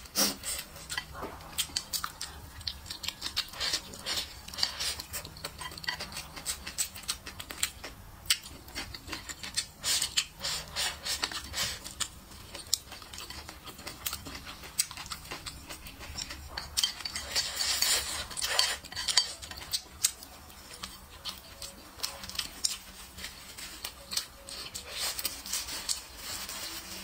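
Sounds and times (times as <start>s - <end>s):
close-up eating sounds: 0.0s - 27.0s.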